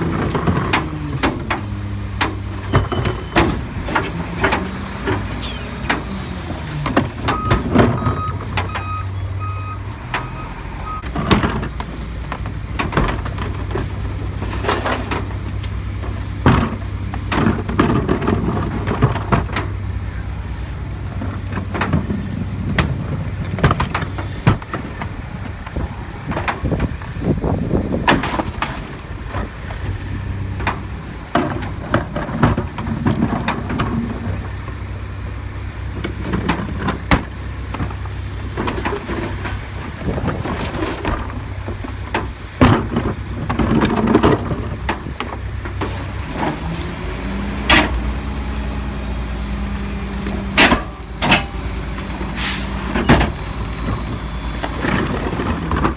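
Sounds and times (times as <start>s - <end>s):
garbage truck engine running: 0.0s - 55.9s.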